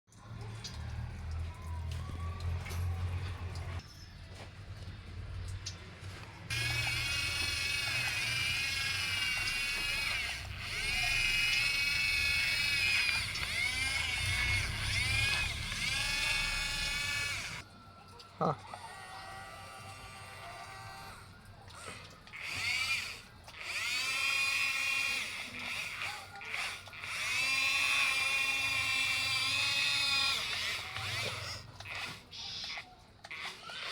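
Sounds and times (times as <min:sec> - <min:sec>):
toy gear motors whining: 0:00.1 - 0:03.8, 0:05.5 - 0:33.9.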